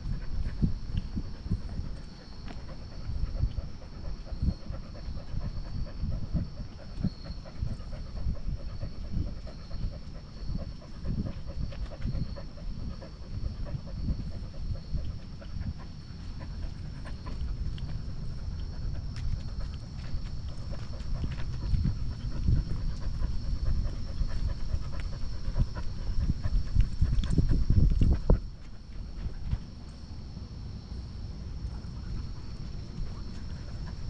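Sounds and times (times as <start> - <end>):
dog panting: 0.0 - 30.0, 31.4 - 34.0.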